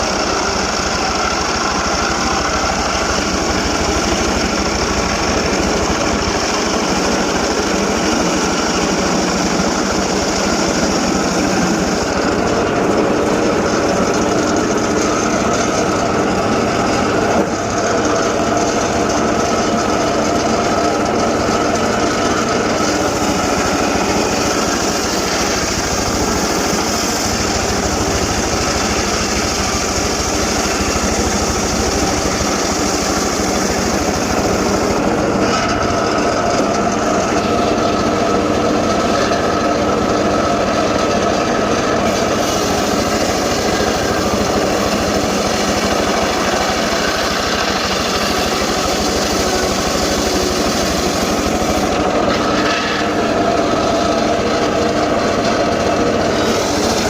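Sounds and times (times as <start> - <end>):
engine-driven saw running: 0.0 - 57.0.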